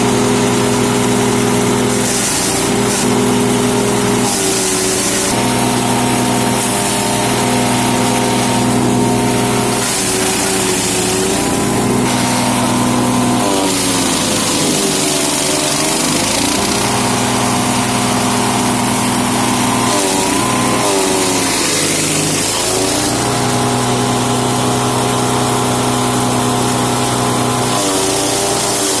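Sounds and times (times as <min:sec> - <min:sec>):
hiss of wood chipping: 0:00.0 - 0:29.0
wood chipper engine running: 0:00.0 - 0:29.0.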